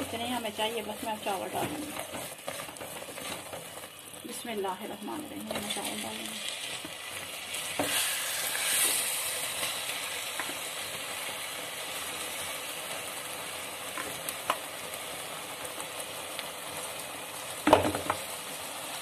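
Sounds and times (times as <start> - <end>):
syrup bubbling and sizzling: 0.0 - 19.0.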